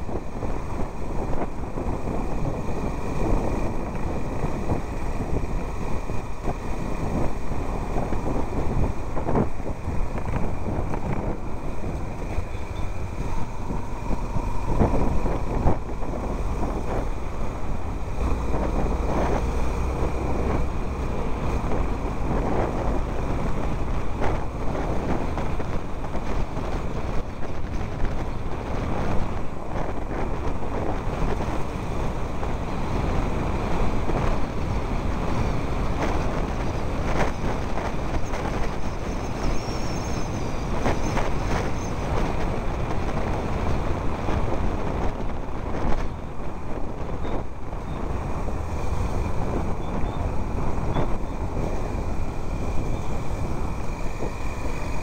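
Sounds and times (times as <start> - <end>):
vehicle rumbling on rough road: 0.0 - 55.0.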